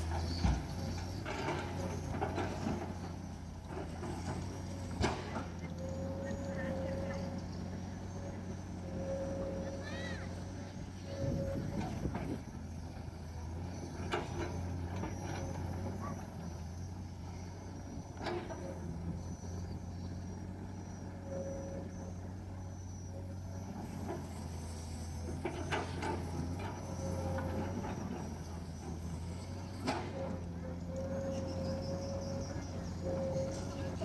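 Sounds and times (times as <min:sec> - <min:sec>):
diesel machinery droning: 0:00.0 - 0:34.0.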